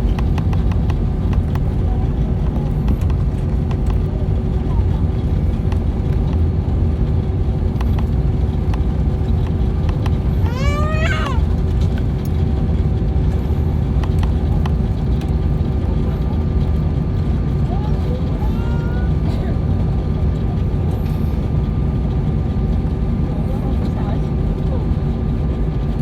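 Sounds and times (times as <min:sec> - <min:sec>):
airliner cabin rumble: 0:00.0 - 0:26.0
constant hum: 0:00.0 - 0:26.0.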